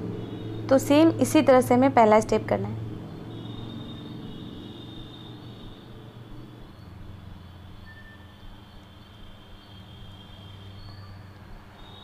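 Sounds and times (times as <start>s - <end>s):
faint high whine: 0.0s - 12.0s
low background hum: 0.0s - 12.0s.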